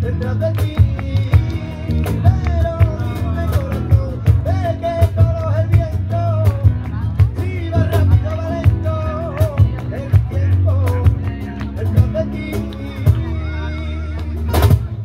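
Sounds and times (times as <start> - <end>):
drum beat: 0.0 - 13.6
heavy bass line: 0.0 - 15.0.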